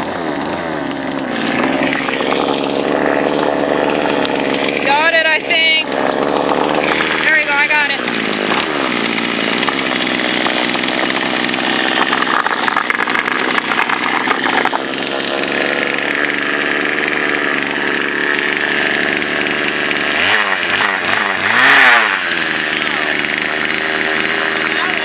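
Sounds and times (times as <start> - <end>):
chainsaw engine at high revs: 0.0 - 25.0.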